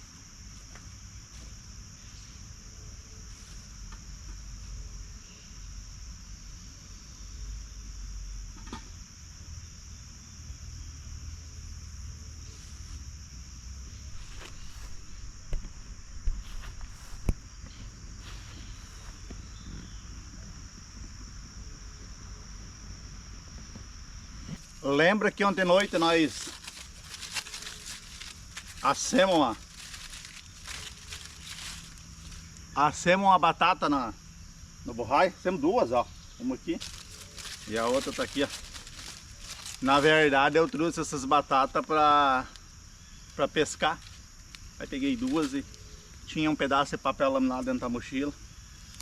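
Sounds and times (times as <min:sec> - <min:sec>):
insect chorus chirring: 0:00.0 - 0:49.0.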